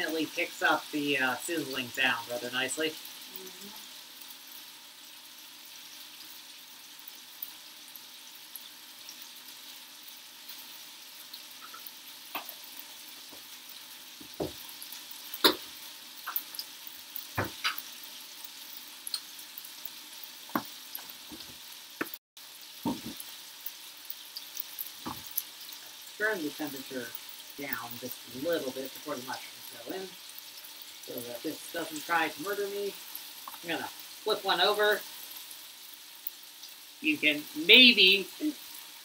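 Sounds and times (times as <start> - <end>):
chicken sizzling in frying pan: 0.0 - 39.0.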